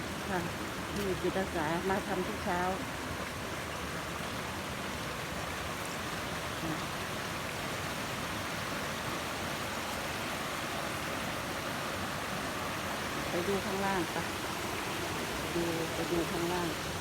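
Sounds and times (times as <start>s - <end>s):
water rushing from waterfall: 0.0s - 17.0s.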